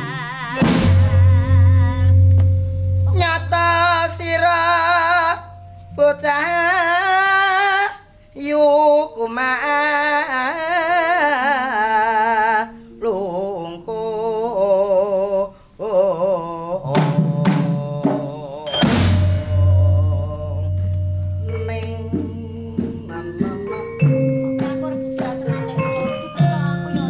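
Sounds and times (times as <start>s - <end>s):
man singing with vibrato: 0.0s - 2.3s, 3.0s - 27.0s.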